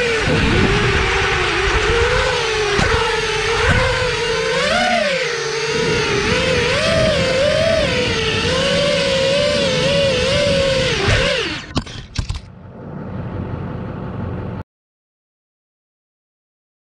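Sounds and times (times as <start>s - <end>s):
drone motors whining: 0.0s - 14.6s.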